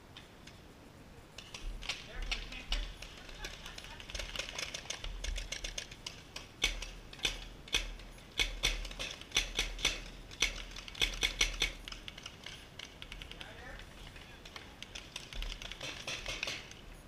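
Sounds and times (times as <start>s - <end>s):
paintball markers firing: 1.4s - 16.8s.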